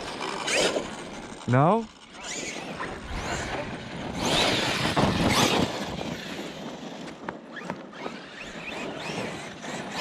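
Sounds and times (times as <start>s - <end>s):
electric toy truck motor whine: 0.0s - 10.0s.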